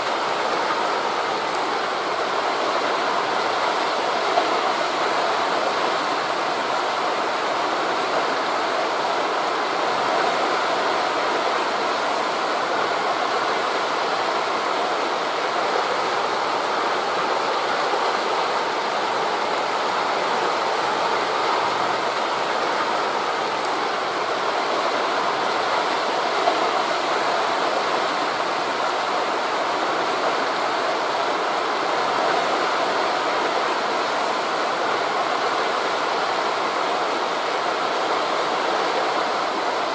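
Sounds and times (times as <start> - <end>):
distant sea waves: 0.0 - 39.9
wind through forest leaves: 0.0 - 39.9.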